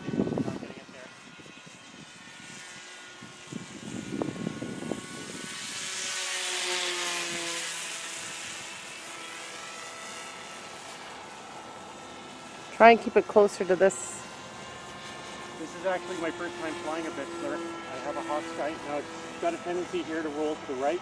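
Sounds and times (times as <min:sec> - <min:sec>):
model plane motor whining: 0:00.0 - 0:21.0.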